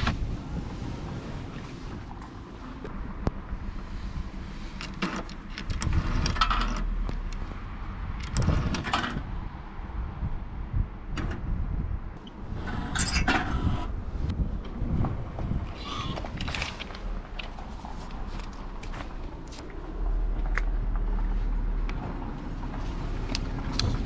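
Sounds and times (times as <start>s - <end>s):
low rumble: 0.0s - 4.8s, 5.6s - 24.0s.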